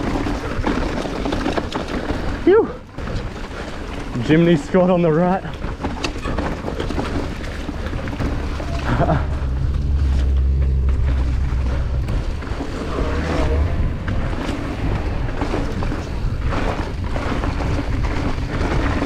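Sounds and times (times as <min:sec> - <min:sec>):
bike rattling and clattering: 0:00.0 - 0:19.0
tyres rumbling over dirt: 0:00.0 - 0:19.0.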